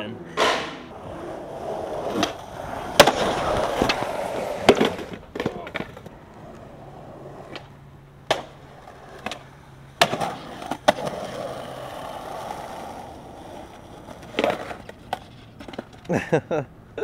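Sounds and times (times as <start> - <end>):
skateboard clacks: 0.4 - 6.7, 7.4 - 16.2
skateboard wheels rolling: 0.4 - 16.7.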